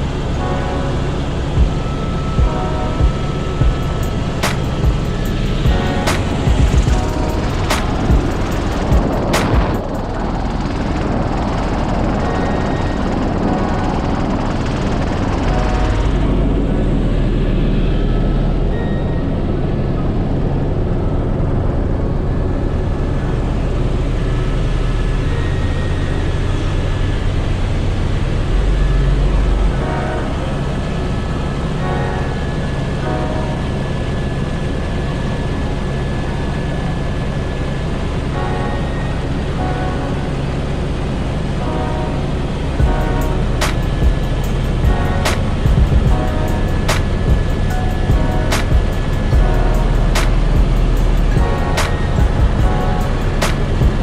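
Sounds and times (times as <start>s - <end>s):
helicopter turbine and rotor drone: 0.0s - 54.0s.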